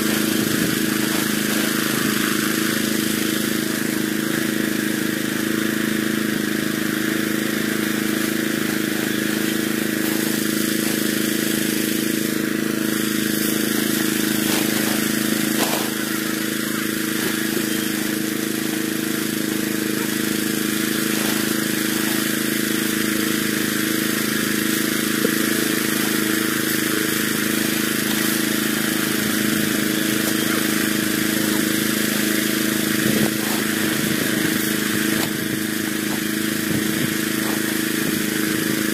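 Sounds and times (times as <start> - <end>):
small engine droning: 0.0 - 38.9.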